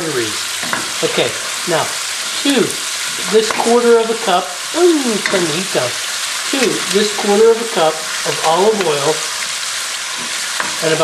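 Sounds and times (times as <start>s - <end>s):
bacon sizzling in oil: 0.0s - 11.0s.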